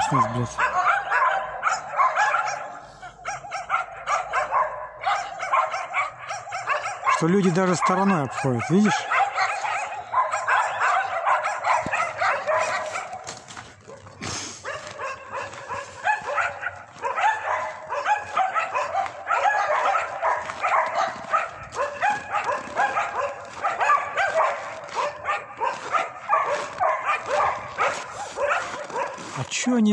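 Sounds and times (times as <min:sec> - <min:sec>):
dogs barking: 0:00.0 - 0:29.9.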